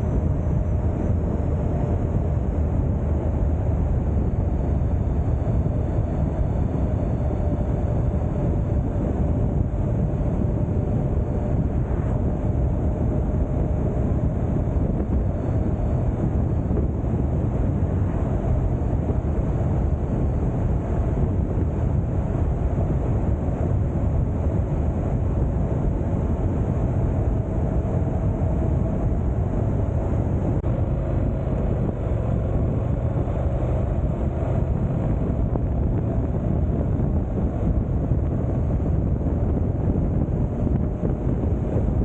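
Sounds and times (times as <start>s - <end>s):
motorcycle engine drone: 0.0s - 42.0s
wind rushing over microphone: 0.0s - 42.0s.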